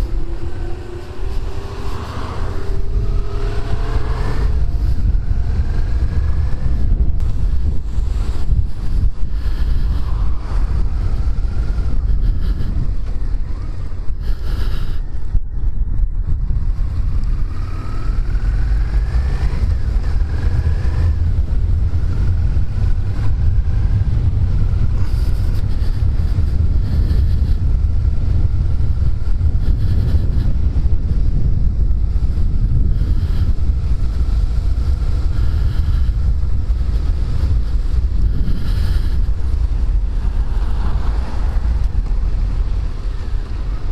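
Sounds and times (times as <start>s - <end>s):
motorcycle engine accelerating: 0.0s - 43.9s
wind buffeting microphone: 0.0s - 43.9s.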